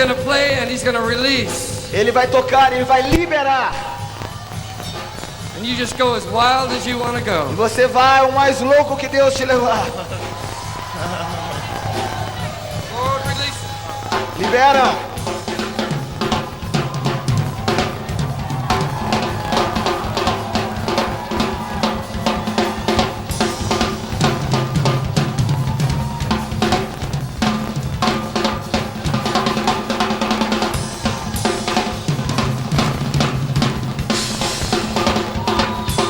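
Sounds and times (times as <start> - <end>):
drum kit solo: 0.0 - 36.0.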